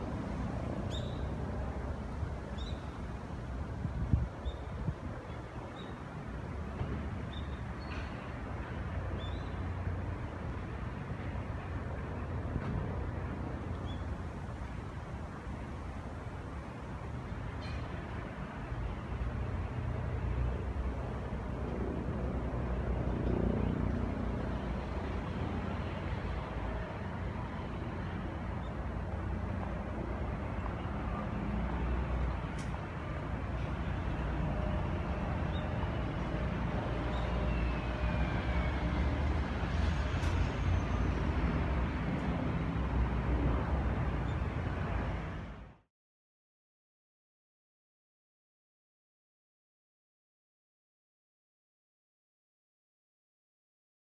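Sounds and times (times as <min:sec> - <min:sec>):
road traffic rumble: 0:00.0 - 0:45.8.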